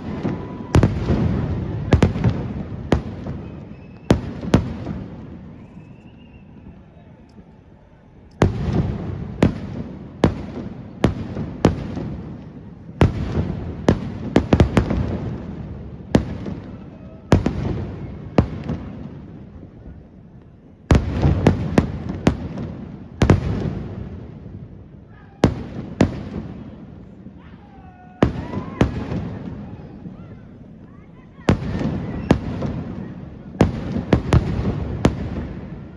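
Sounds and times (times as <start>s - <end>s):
fireworks bangs: 0.0s - 7.1s, 8.4s - 35.9s.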